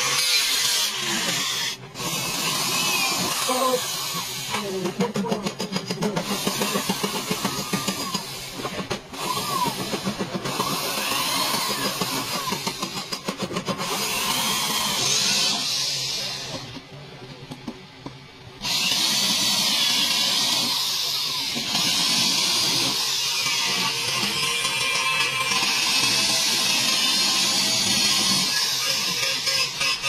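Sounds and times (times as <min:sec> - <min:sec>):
electric drill boring sheet metal: 0:00.0 - 0:16.8, 0:18.6 - 0:30.0.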